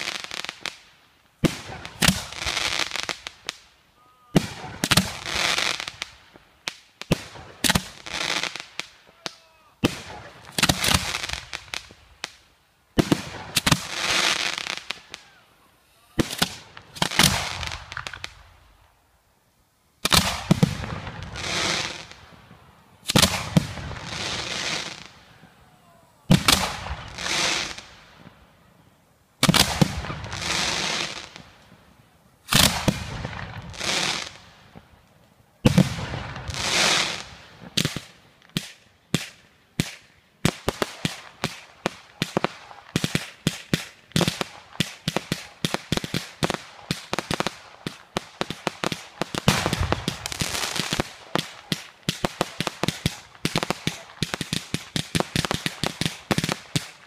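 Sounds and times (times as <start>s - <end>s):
firework shells banging and crackling: 0.0s - 3.7s, 4.3s - 15.3s, 16.1s - 18.5s, 20.0s - 25.6s, 26.3s - 28.4s, 29.4s - 57.0s.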